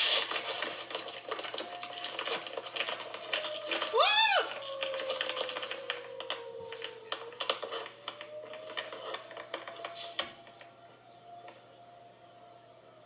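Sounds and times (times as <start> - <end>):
distant warning siren wail: 0.0 - 13.0.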